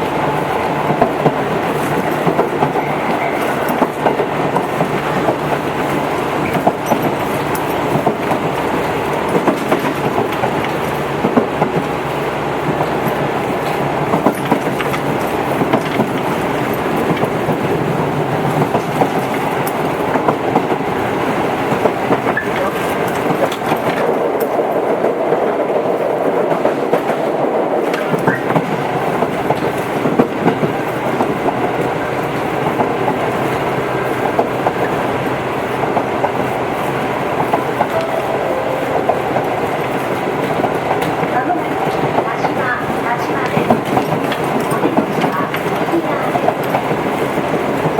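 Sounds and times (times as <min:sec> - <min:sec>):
electric train rumbling: 0:00.0 - 0:47.9
rail joint clicks: 0:00.0 - 0:47.9.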